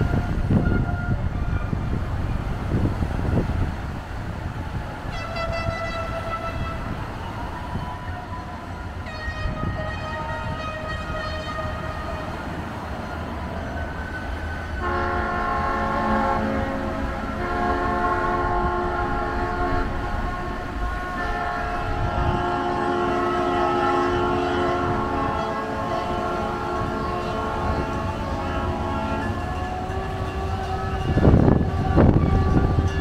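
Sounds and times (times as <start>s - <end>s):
horn blasts: 0.0s - 1.7s, 4.7s - 33.0s
wind: 0.0s - 33.0s.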